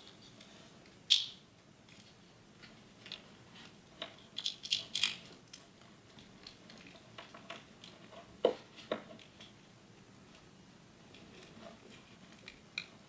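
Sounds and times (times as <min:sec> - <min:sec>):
small parts clicking and rattling: 0:00.0 - 0:09.7, 0:11.0 - 0:13.0.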